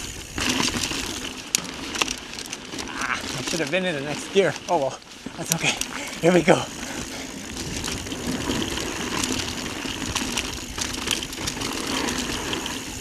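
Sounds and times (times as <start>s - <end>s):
bike rattling: 0.0s - 13.0s
tyres rolling on dirt: 0.0s - 13.0s.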